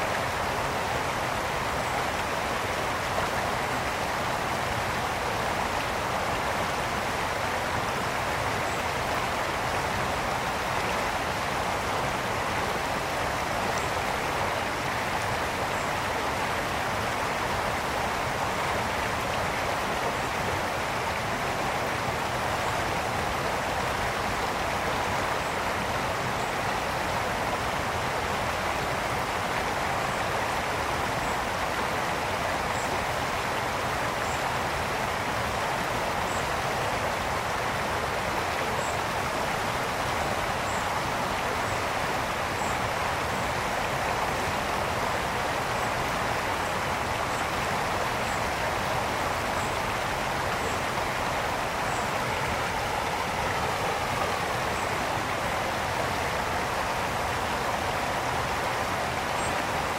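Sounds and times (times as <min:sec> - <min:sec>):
brook flowing: 0:00.0 - 0:59.9.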